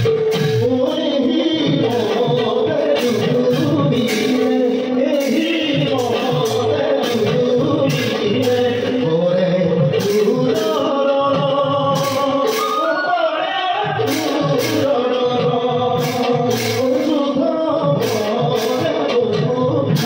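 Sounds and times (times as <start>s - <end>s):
drum strokes: 0.0s - 20.0s
men singing: 0.0s - 20.0s.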